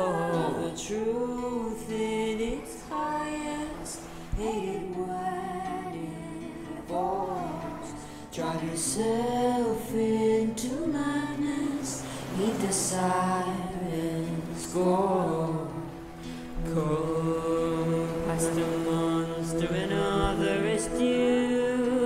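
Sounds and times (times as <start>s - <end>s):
person singing slow phrases: 0.0s - 22.0s.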